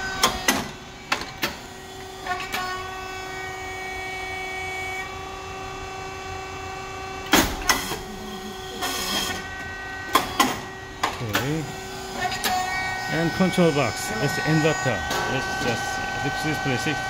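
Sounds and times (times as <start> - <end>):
motor and pump whine: 0.0 - 17.0.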